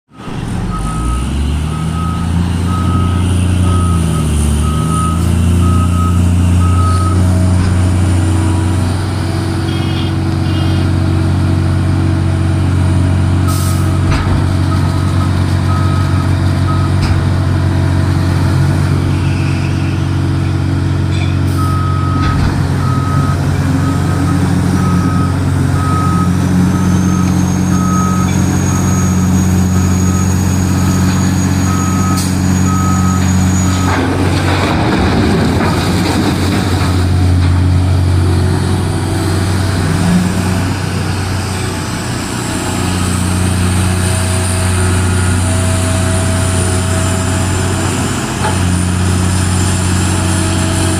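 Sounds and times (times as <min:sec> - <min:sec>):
diesel engines droning: 0:00.1 - 0:50.9.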